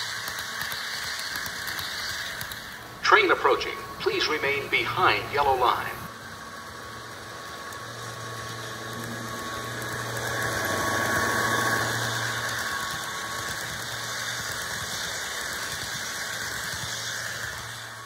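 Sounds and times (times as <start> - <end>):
model train running past: 0.0 - 18.0.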